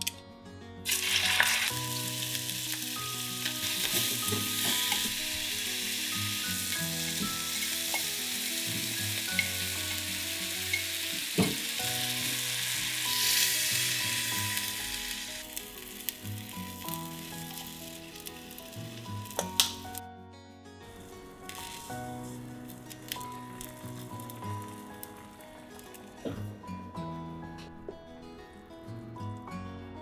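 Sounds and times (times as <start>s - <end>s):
food sizzling in a pot: 0.8s - 20.0s, 20.9s - 26.3s.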